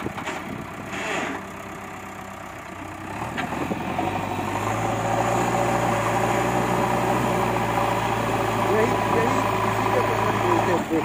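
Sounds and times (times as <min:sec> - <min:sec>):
diesel engine revving: 0:00.0 - 0:11.0.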